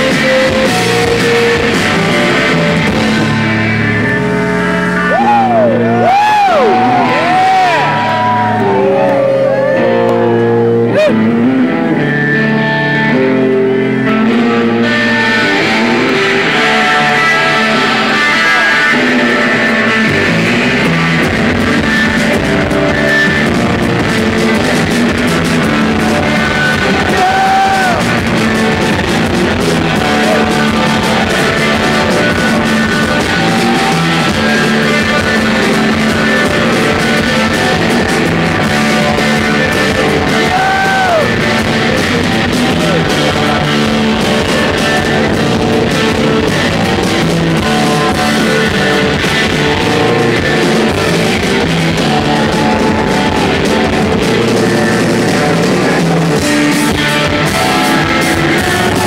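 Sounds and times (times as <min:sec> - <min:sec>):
bass: 0:00.0 - 0:59.0
drums: 0:00.0 - 0:59.0
electric guitars: 0:00.0 - 0:59.0.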